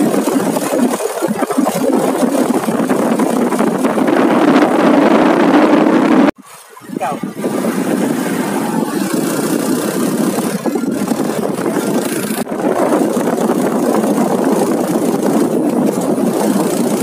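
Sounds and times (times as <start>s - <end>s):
motorcycle engine: 0.0s - 17.0s
wind rush on microphone: 0.0s - 17.0s.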